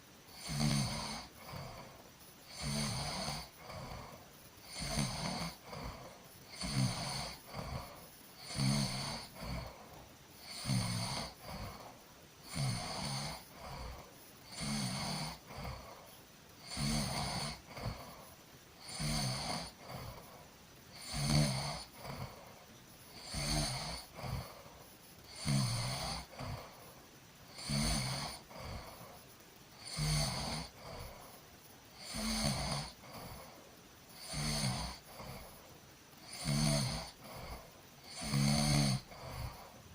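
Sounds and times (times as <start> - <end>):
person snoring: 0.3 - 39.9.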